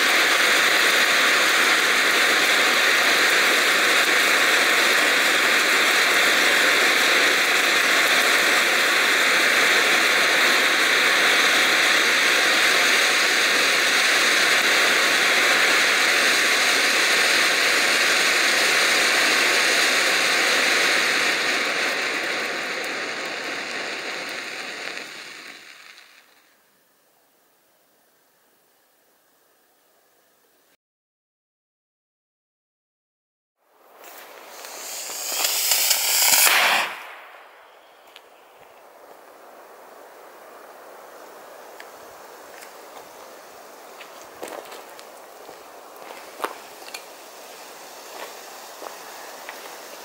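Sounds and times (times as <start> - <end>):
hand flare hissing: 0.0 - 26.5, 33.8 - 50.0.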